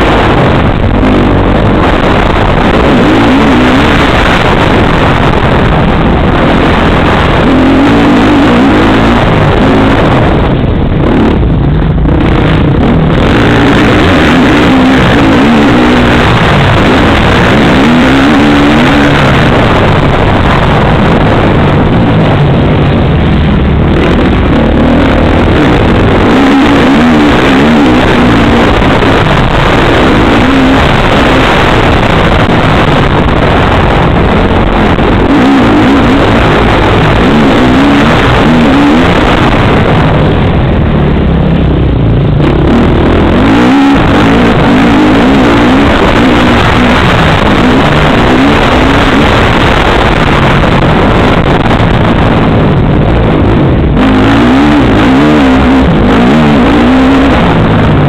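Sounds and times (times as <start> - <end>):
motocross motorcycle engine revving: 0.0 - 58.0.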